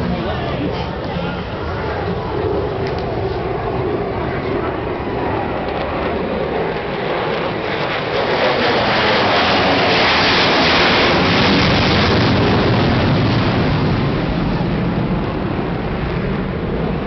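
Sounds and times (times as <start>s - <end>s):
jet bomber flyby: 0.0s - 17.0s.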